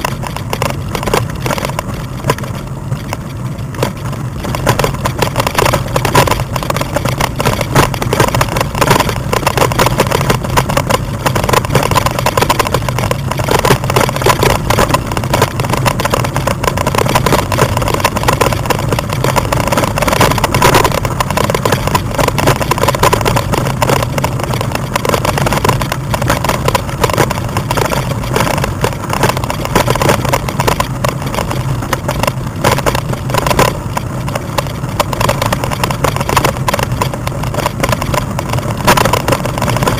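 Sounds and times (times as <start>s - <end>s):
bike rattling on gravel: 0.0s - 39.9s.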